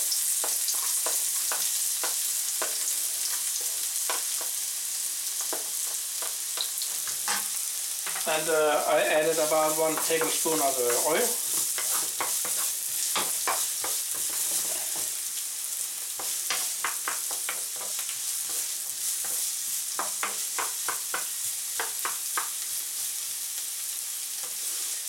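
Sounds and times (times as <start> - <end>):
food sizzling in hot oil: 0.0 - 25.0
spatula scraping and tapping pan: 0.1 - 4.7, 5.3 - 8.4, 9.3 - 15.2, 16.0 - 22.8.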